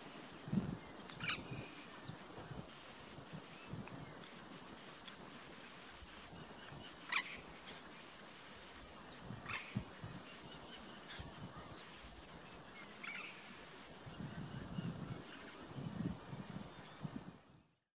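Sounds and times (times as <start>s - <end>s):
high insect drone: 0.0s - 17.8s.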